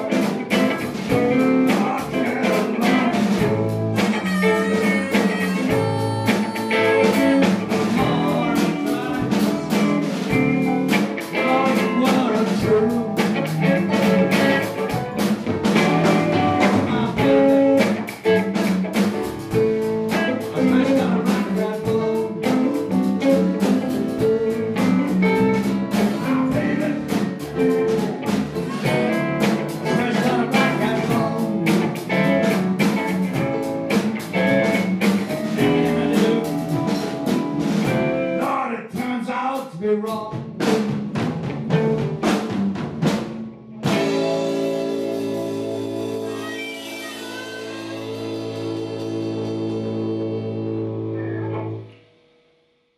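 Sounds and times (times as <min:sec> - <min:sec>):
steady drum beat: 0:00.0 - 0:50.4
blues band playing: 0:00.0 - 0:52.0.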